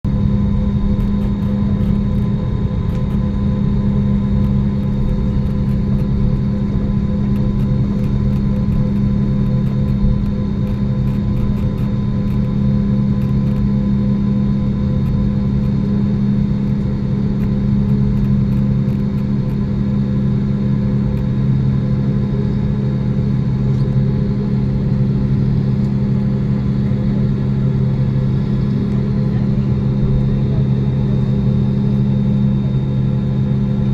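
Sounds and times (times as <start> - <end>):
airliner cabin hum: 0.1 - 33.9.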